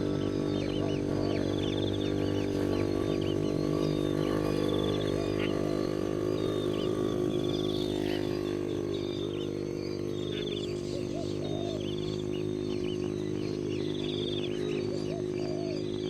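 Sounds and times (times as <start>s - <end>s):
birds chirping and trilling: 0.0s - 16.0s
low droning hum: 0.0s - 16.0s.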